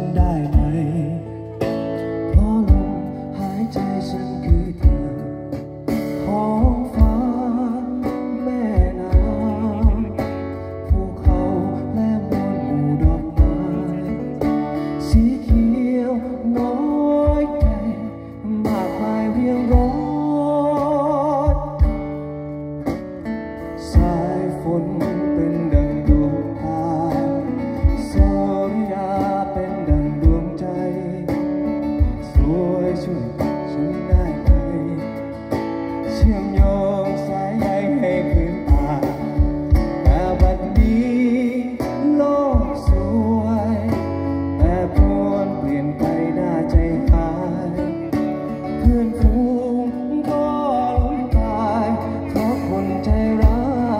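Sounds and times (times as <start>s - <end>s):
acoustic guitars: 0.0s - 53.9s
low beat thumps: 0.0s - 53.9s
man singing with vibrato: 0.0s - 53.9s.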